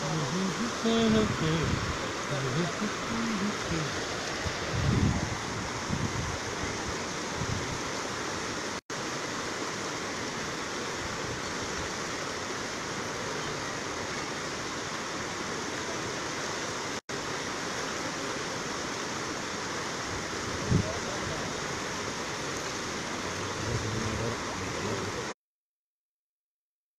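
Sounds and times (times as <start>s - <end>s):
floodwater rushing past: 0.0s - 25.3s.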